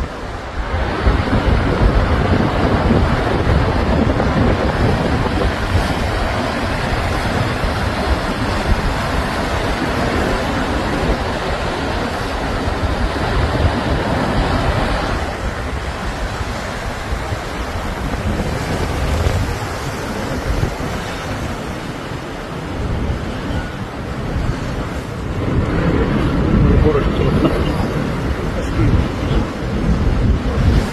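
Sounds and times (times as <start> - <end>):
heavy surf breaking: 0.0 - 30.9
wind buffeting microphone: 0.0 - 30.9.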